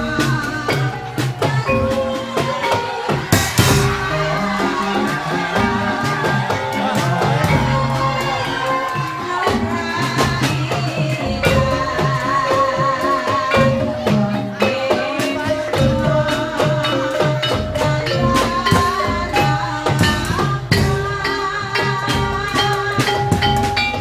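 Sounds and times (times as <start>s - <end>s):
drums beating steady rhythm: 0.0s - 24.0s.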